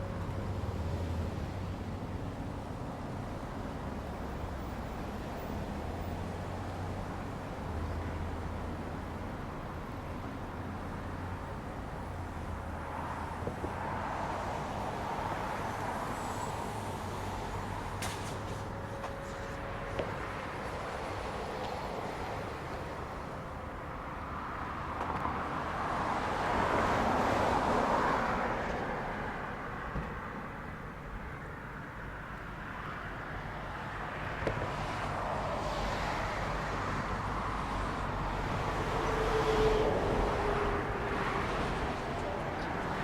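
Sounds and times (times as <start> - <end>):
passing road traffic: 0.0 - 43.0.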